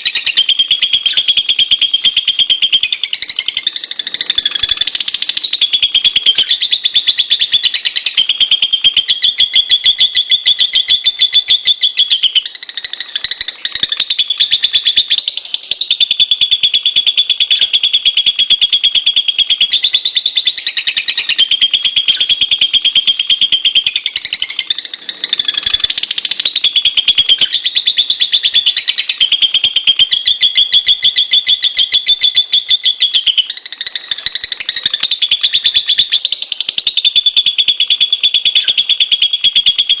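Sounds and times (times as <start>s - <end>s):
lovebird chattering trill: 0.0s - 40.0s.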